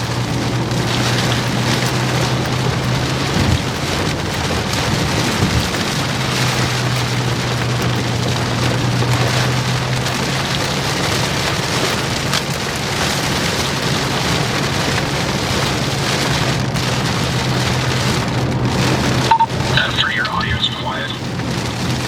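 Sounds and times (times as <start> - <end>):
heavy rain on vehicle: 0.0 - 22.0.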